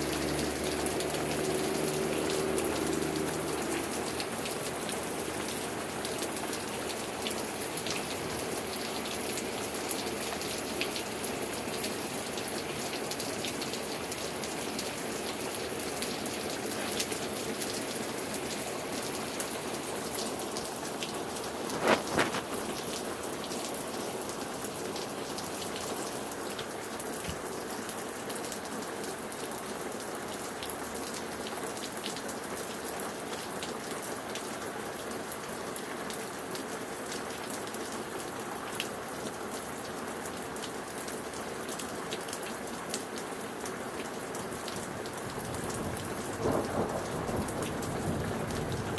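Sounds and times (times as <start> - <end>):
rain falling: 0.0 - 48.9
raindrops ticking on a surface: 0.0 - 48.9.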